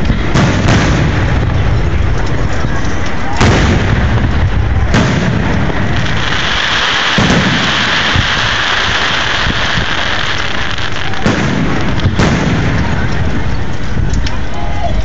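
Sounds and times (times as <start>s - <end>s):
fireworks booming: 0.0s - 14.2s
dense steady hiss: 0.0s - 15.0s
low rumble: 0.0s - 15.0s.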